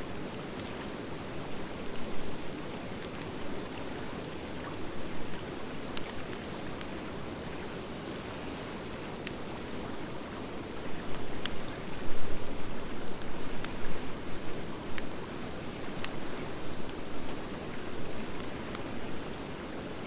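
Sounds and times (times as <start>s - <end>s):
wood fire crackling: 0.4s - 20.0s.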